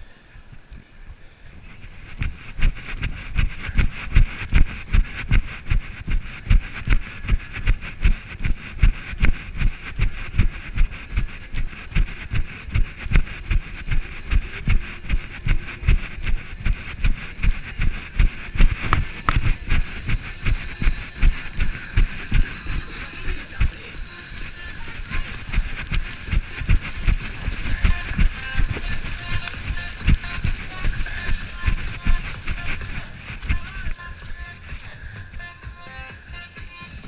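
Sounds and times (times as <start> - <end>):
steady hiss: 0.0 - 35.5
running footsteps on dirt: 0.0 - 37.0.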